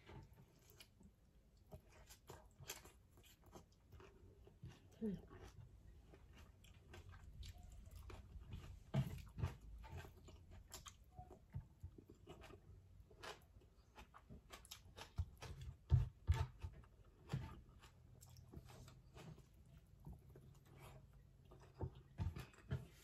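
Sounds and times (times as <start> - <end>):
chewing with wet mouth smacks: 0.0 - 23.0.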